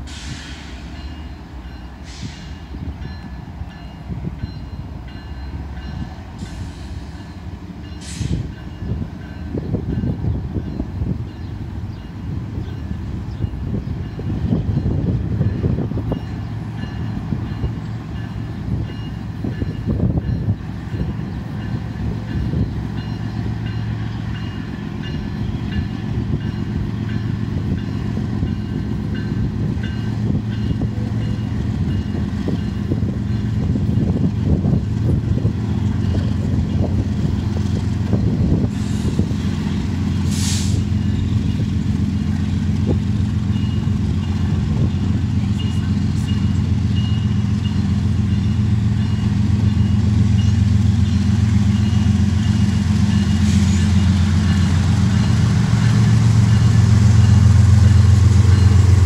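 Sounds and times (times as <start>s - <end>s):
diesel locomotive engines rumbling: 0.0s - 59.0s.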